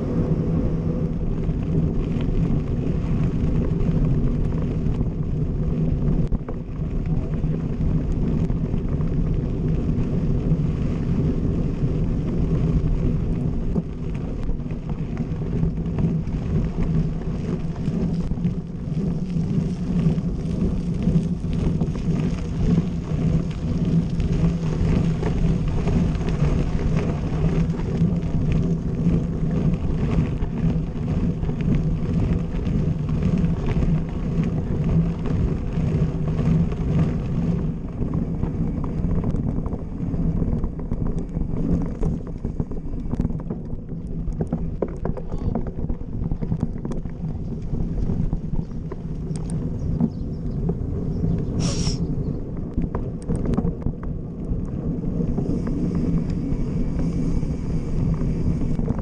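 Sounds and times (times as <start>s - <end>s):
bike tyres rolling on gravel: 0.0s - 59.0s
wind on microphone: 0.0s - 59.0s.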